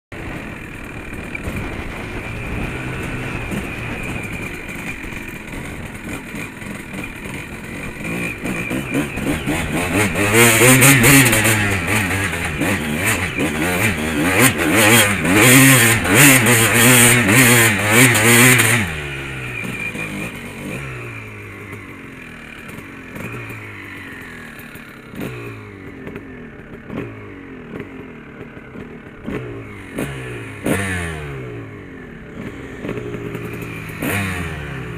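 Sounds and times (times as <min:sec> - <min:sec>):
dirt bike engine revving: 0:00.2 - 0:34.9.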